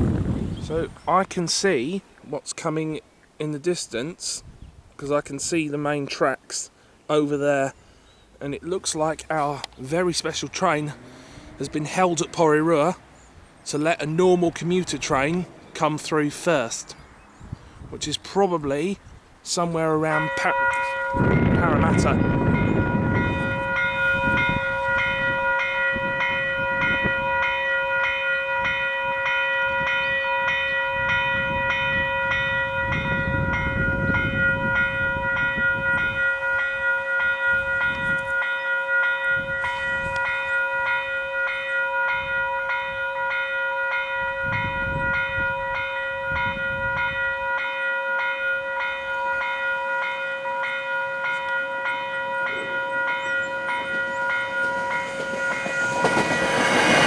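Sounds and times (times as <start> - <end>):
crossing warning bell ringing: 8.4 - 16.9, 19.5 - 57.0.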